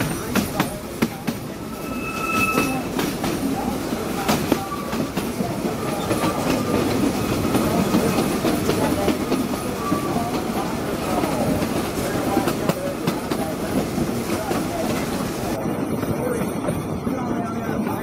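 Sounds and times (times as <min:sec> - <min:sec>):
train wheel squeals: 0:00.0 - 0:11.5, 0:14.4 - 0:18.0
train rolling rumble: 0:00.0 - 0:18.0.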